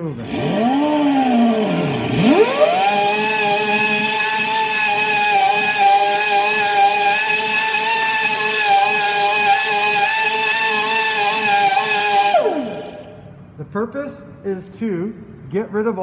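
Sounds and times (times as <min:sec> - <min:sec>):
die grinder whine: 0:00.0 - 0:13.3.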